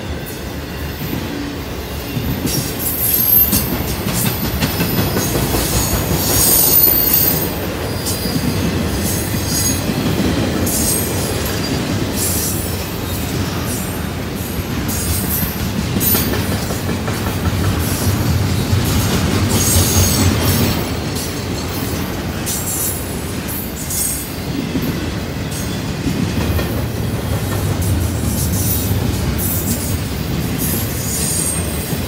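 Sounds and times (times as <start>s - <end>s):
train wheels rumbling on rails: 0.0s - 32.0s
wheels clacking over rail joints: 2.1s - 32.0s.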